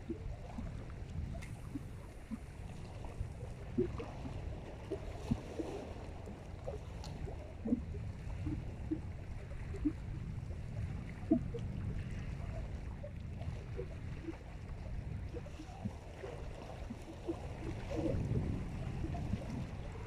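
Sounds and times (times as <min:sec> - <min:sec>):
low steady rumble: 0:00.0 - 0:20.0
water lapping at shore: 0:00.0 - 0:20.0.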